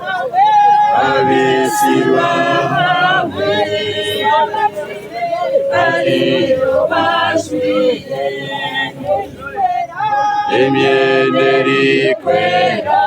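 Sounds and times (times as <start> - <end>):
mourners singing together: 0.0 - 13.0.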